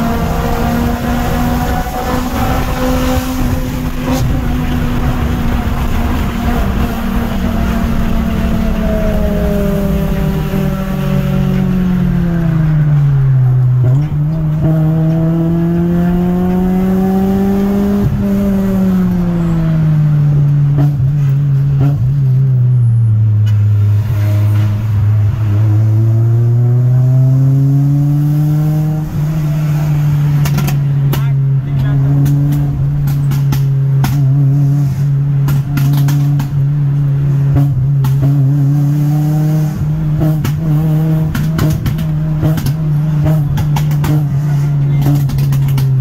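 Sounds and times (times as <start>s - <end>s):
car engine running hard: 0.0s - 46.0s.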